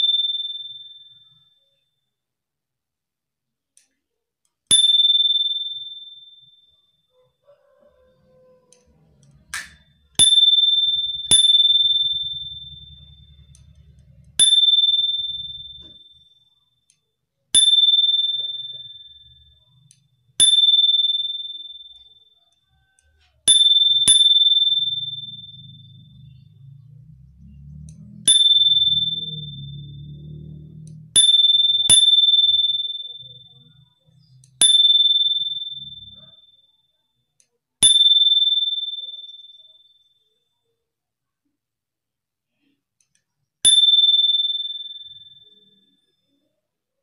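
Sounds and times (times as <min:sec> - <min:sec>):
bicycle bell rings: 0:00.0 - 0:02.0, 0:04.7 - 0:07.4, 0:08.8 - 0:40.4, 0:43.6 - 0:46.6.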